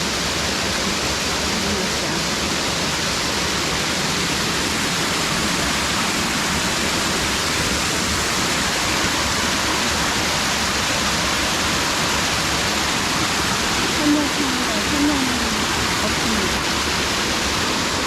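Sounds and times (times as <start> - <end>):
stream water rushing over rock: 0.0 - 18.0.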